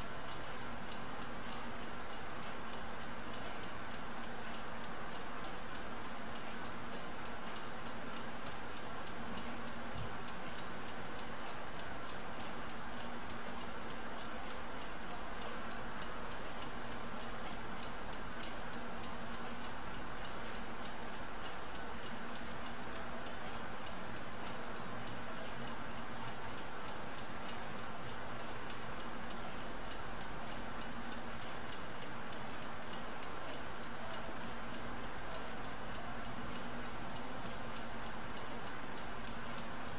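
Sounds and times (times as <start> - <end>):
stopclock ticking rapidly: 0.0 - 39.9.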